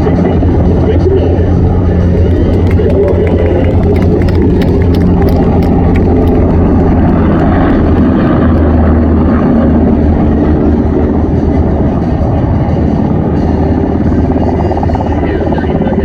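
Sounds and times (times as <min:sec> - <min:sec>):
military aircraft in flight: 0:00.0 - 0:16.0.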